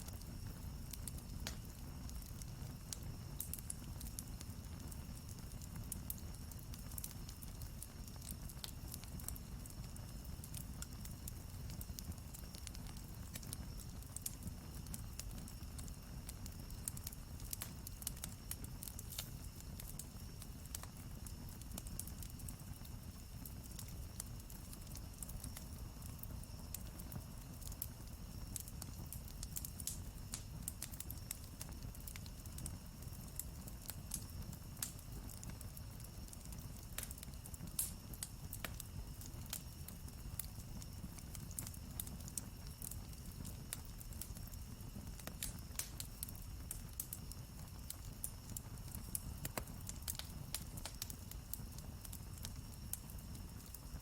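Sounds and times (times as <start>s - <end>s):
flames rumbling: 0.0s - 54.0s
wood crackling and popping: 0.0s - 54.0s.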